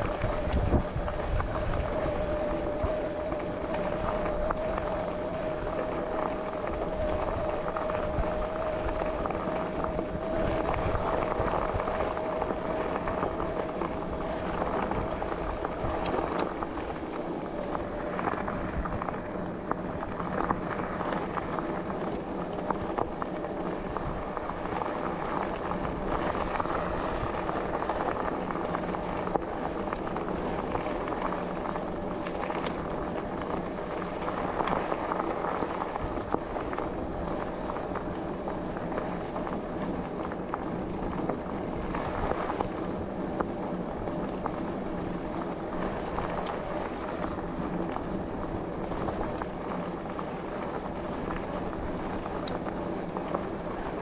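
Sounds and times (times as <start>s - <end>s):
bicycle rattles and clicks: 0.0s - 54.0s
bicycle tyres rolling: 0.0s - 54.0s
steady whine: 0.0s - 54.0s.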